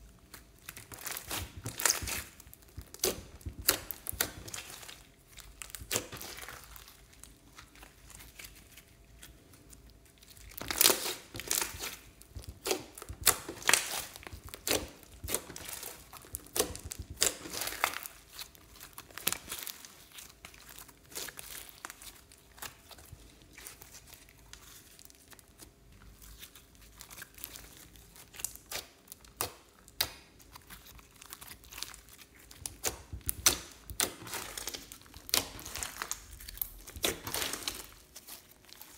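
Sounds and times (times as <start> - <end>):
slime squishing and popping: 0.2 - 25.7, 26.3 - 38.9.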